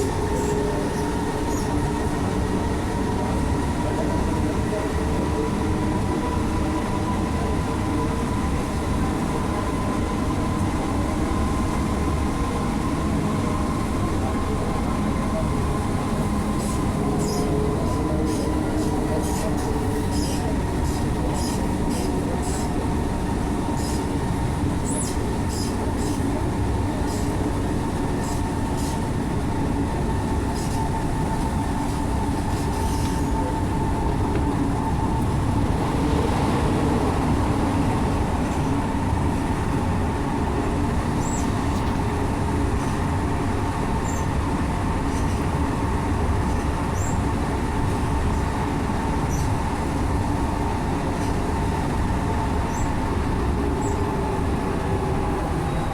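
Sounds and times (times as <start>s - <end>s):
metro train rumble: 0.0s - 55.9s.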